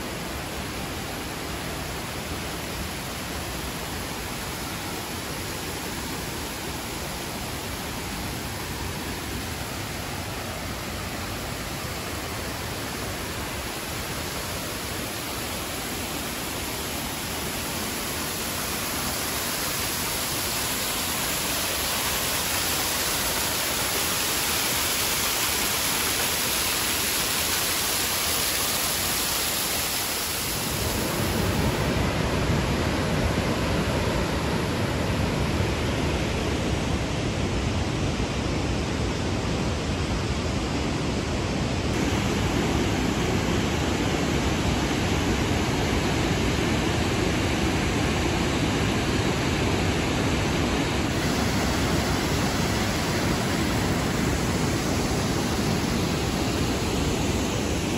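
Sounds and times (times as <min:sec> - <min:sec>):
waterfall rushing: 0:00.0 - 0:36.5, 0:41.8 - 0:57.9.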